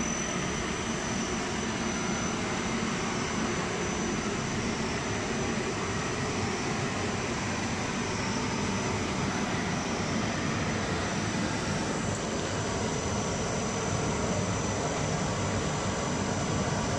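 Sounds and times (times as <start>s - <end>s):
faint high whine: 0.0s - 16.9s
machinery drone and hiss: 0.0s - 16.9s.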